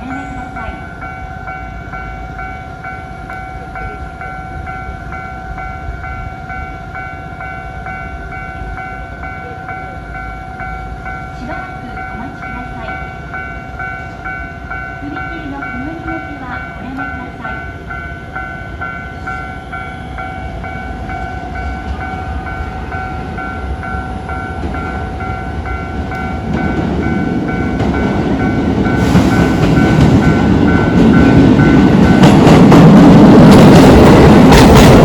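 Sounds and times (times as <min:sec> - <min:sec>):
level-crossing alarm ringing: 0:00.0 - 0:35.0
train rumble passing: 0:00.0 - 0:35.0.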